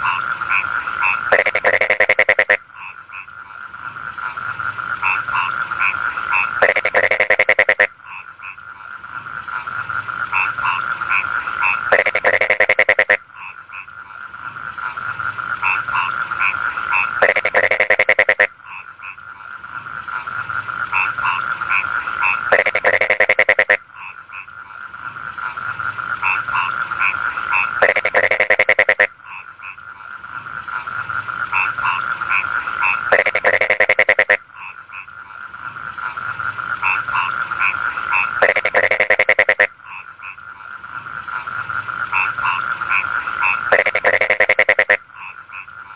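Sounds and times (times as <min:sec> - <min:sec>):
frogs croaking: 0:00.0 - 0:45.9.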